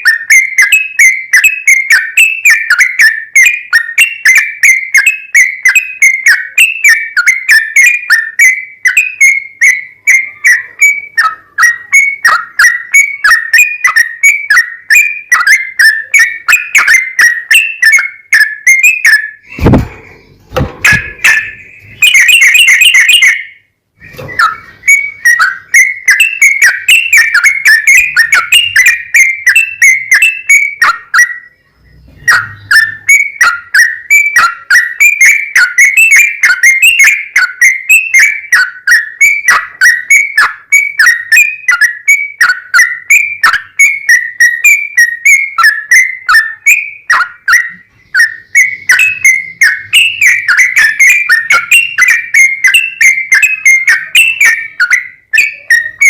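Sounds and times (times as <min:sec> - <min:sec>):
bulbul singing whistled notes: 0:00.0 - 0:56.0.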